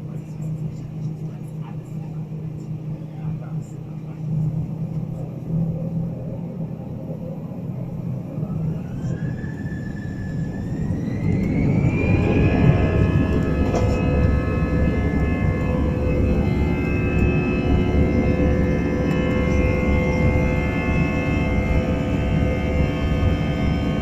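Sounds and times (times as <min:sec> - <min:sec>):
jet engine rumble: 0:00.0 - 0:24.0
jet engine whine rising: 0:00.0 - 0:24.0.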